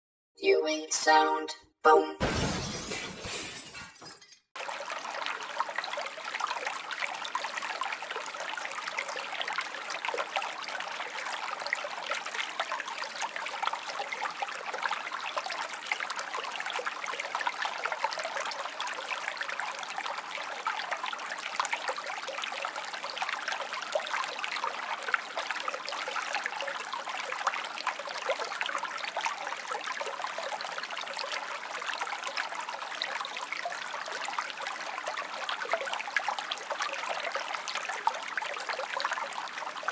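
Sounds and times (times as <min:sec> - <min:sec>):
water stream trickling: 0:04.6 - 0:39.9.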